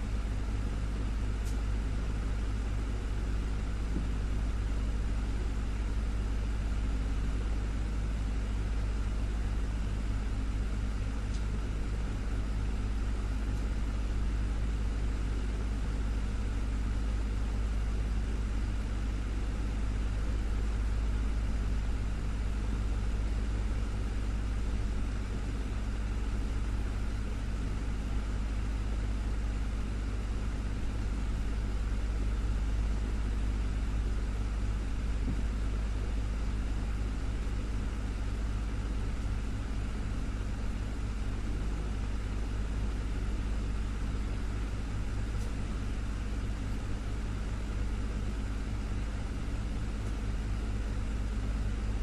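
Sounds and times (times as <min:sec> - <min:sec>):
desktop fan running: 0:00.0 - 0:52.0.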